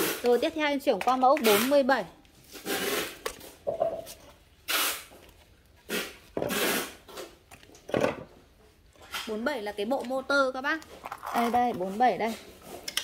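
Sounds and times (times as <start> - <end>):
handling rustling and scraping: 0.0 - 13.0.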